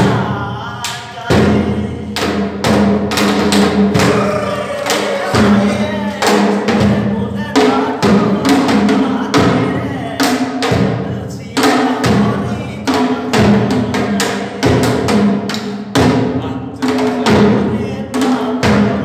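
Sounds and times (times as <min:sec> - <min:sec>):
man singing: 0:00.0 - 0:02.8, 0:03.9 - 0:15.3, 0:16.0 - 0:19.0
drums beaten with sticks: 0:00.0 - 0:19.0.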